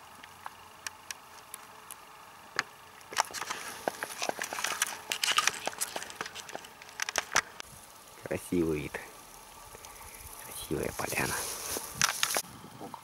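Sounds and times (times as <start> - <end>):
grass rustling and crackling: 0.0 - 13.0.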